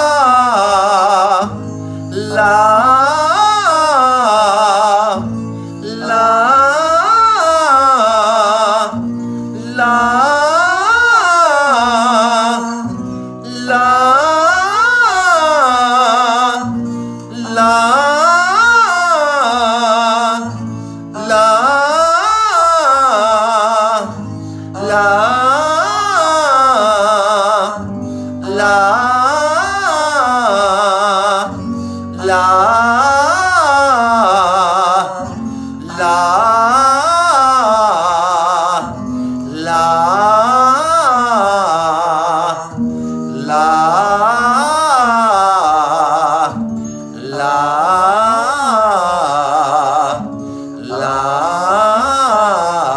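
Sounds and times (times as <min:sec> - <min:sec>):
man singing vocal warm-up: 0:00.0 - 0:52.9.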